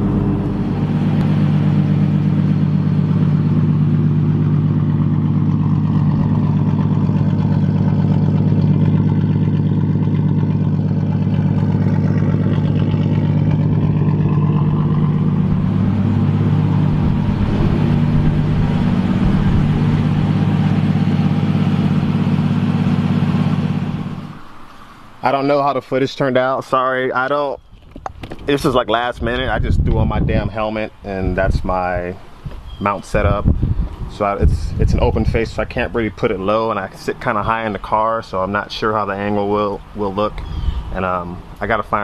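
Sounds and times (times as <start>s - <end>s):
car engine idling: 0.0s - 25.9s, 30.4s - 42.0s.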